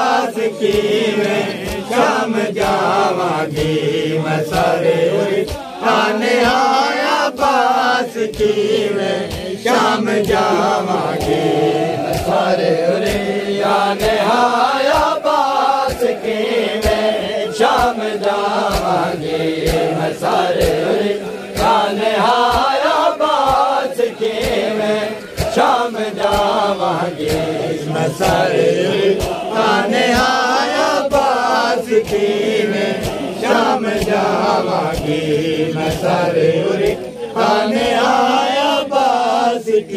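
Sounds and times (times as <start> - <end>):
men chanting in unison: 0.0 - 39.9
hand slaps on chest: 4.5 - 38.2.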